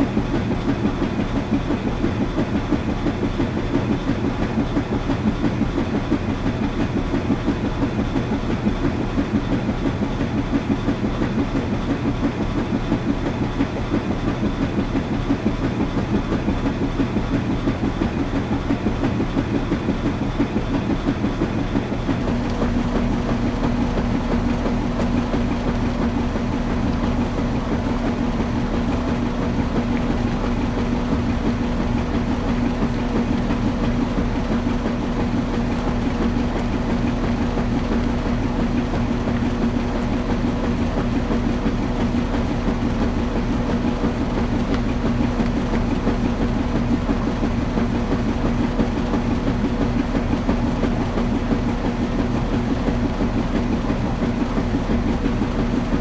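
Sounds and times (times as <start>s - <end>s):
motor hum: 0.0s - 56.0s
washing machine churning: 0.0s - 56.0s.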